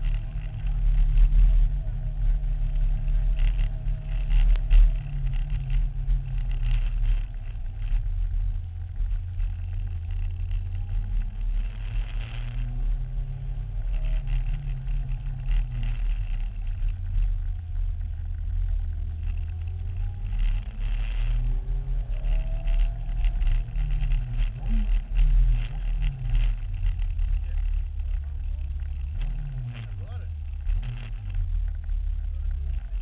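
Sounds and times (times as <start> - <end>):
car engine low rumble: 0.0 - 33.0.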